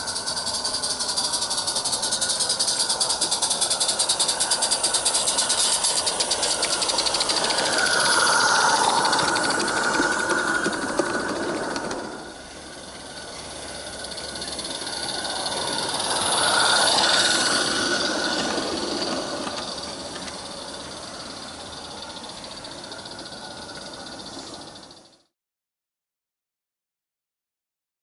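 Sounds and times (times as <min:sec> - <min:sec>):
model train running on track: 0:00.0 - 0:25.3
steam locomotive hissing: 0:00.0 - 0:25.3.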